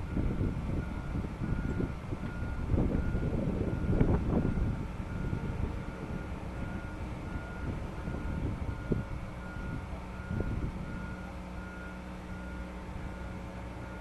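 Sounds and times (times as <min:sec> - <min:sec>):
low machinery rumble: 0:00.0 - 0:14.0
pulsed warning beeps: 0:00.0 - 0:14.0.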